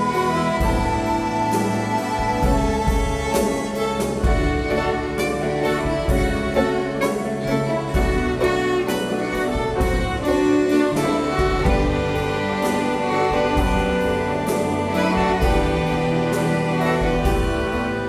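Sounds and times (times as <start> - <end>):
orchestra playing sustained chords: 0.0 - 18.0.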